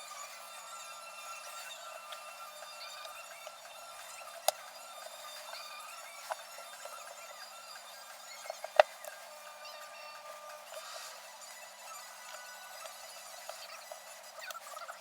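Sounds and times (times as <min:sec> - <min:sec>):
faint steady tones: 0:00.0 - 0:15.0.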